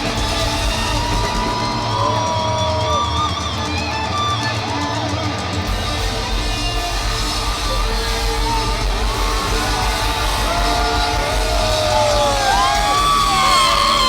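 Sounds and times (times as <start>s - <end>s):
crowd yelling and singing: 0.0s - 14.0s
live hard rock band: 0.0s - 14.0s.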